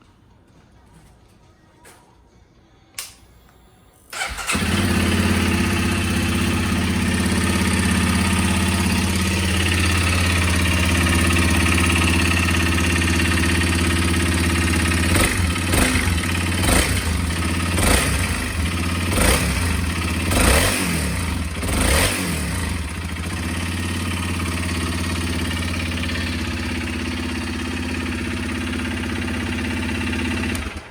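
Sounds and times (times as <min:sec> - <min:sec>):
abnormal engine noise: 0:04.2 - 0:30.9
dirt bike engine idling and revving: 0:04.2 - 0:30.9.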